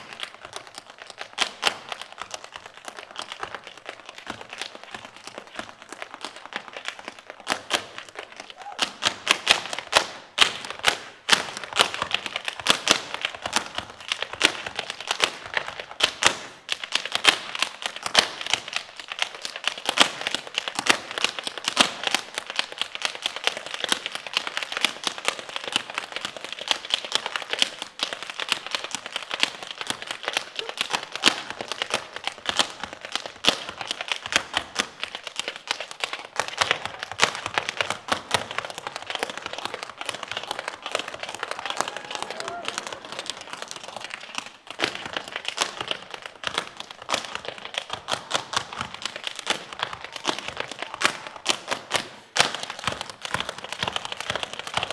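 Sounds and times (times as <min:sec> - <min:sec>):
tap shoes clicking on stage: 0:00.0 - 0:54.9.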